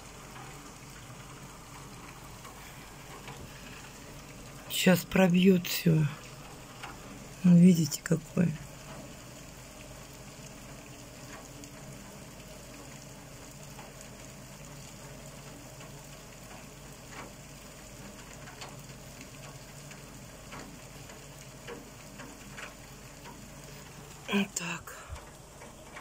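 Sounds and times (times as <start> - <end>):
raindrops tapping: 0.0 - 26.0
steady rain hiss: 0.0 - 26.0.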